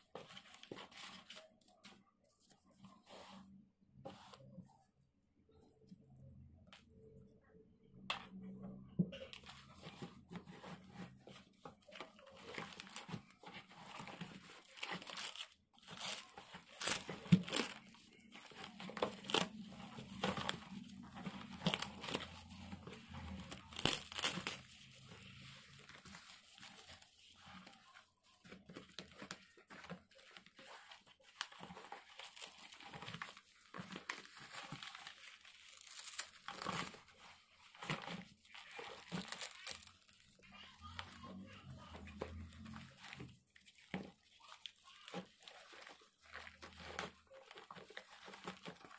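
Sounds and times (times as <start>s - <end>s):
plastic wrapping crinkling: 9.1s - 48.9s.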